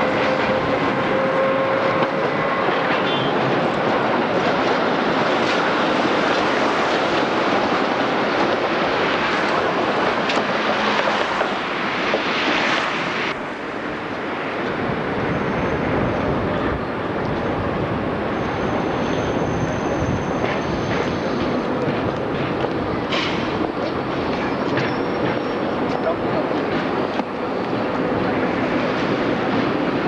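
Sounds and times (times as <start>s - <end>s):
street traffic rumble: 0.0s - 30.0s
tram passing close: 0.0s - 30.0s.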